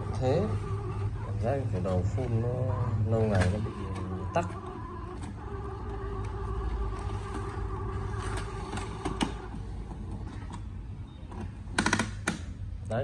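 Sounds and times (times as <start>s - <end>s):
printer motor hum: 0.0s - 12.2s.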